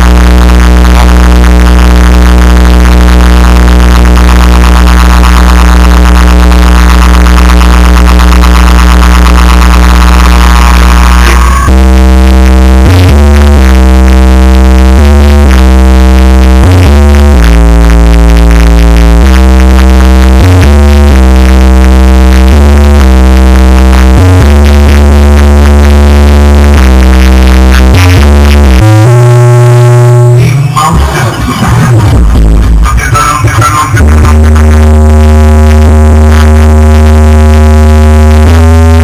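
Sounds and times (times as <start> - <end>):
loud electronic music with synth bass: 0.0 - 39.0.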